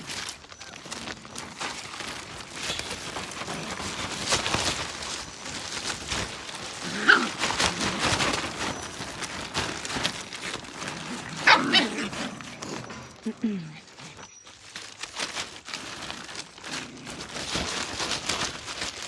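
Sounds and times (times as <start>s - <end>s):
scuffling and scratching: 0.0s - 19.0s
puppies yelping: 0.1s - 15.6s.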